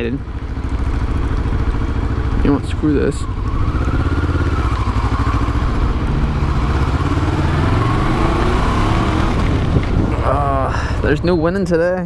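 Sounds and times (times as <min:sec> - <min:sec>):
low wind rumble: 0:00.0 - 0:12.0
motorcycle engine running: 0:00.0 - 0:12.0.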